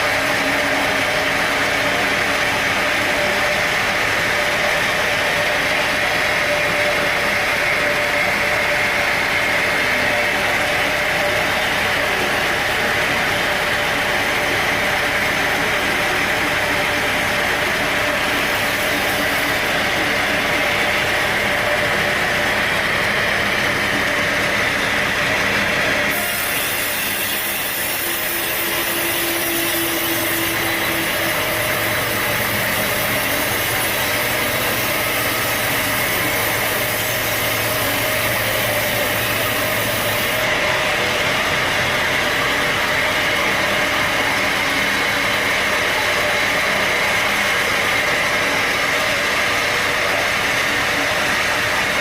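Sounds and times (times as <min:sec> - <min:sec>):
engine running: 0:00.0 - 0:52.0
saw blade cutting log: 0:00.0 - 0:52.0.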